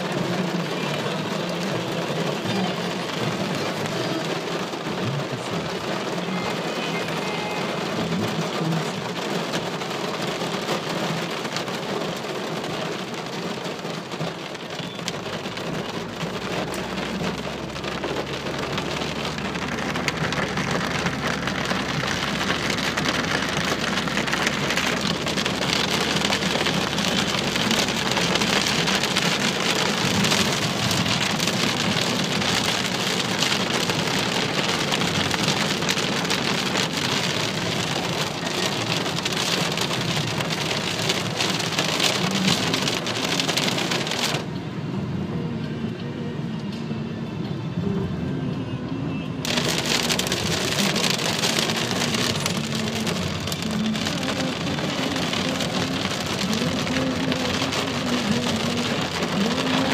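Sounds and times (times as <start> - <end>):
heavy rain on car: 0.0 - 59.9.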